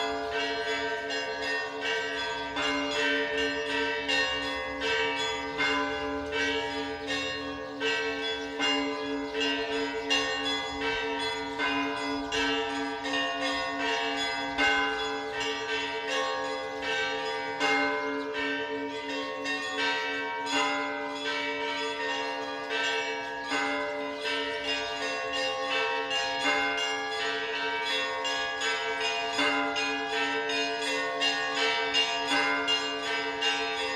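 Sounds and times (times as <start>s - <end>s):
church bells ringing: 0.0s - 33.9s.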